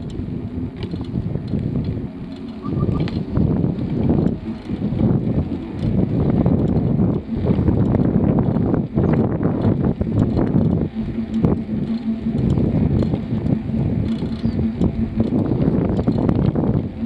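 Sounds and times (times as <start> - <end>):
light ticks and rattles: 0.0 - 17.0
wind buffeting microphone: 0.0 - 17.0.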